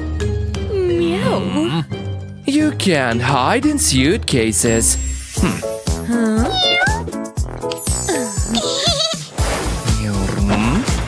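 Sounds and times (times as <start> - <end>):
upbeat cartoon music: 0.0 - 11.0.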